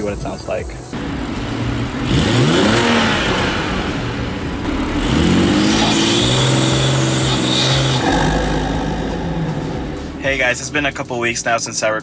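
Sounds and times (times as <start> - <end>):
car engine running: 0.8 - 11.9.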